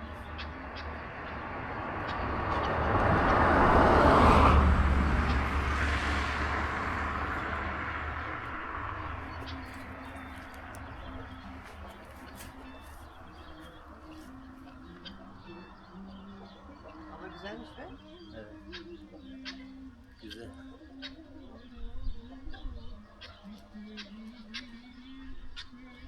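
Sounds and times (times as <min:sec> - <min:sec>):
vehicle passing by: 0:00.0 - 0:20.9.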